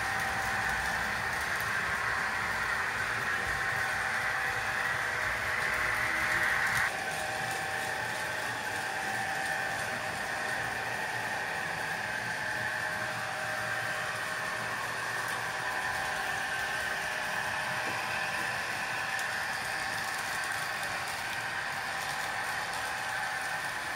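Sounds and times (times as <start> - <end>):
electric motor whine: 0.0 - 23.9
wheels rolling on track: 0.0 - 23.9.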